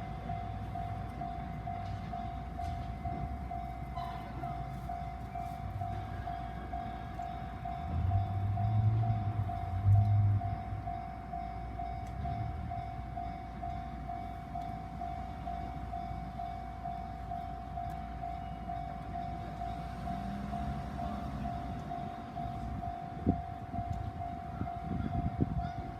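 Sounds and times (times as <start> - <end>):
train rumble: 0.0 - 25.9.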